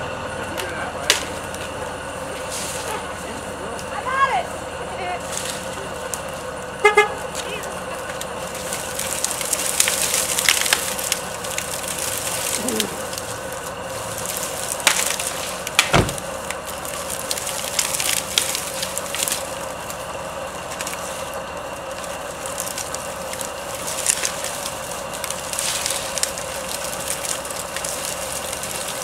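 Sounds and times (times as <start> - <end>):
dry branches cracking and snapping: 0.0 - 29.0
tree dragged on ground: 0.0 - 29.0.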